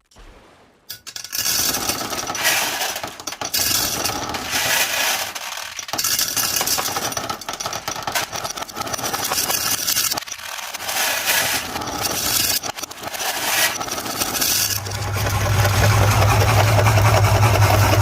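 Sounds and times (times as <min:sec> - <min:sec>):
marbles cracking in meat grinder: 0:01.4 - 0:18.0.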